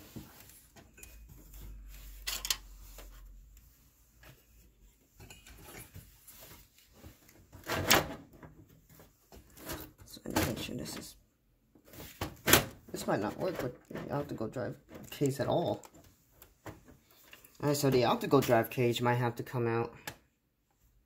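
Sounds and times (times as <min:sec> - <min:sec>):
knocks and scrapes of handling: 0:00.0 - 0:11.1, 0:11.7 - 0:18.6.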